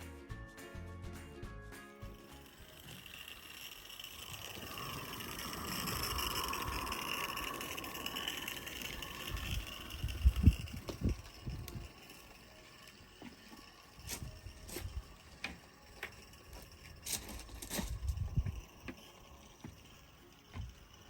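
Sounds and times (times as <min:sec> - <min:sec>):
model train running on track: 0:00.0 - 0:21.0.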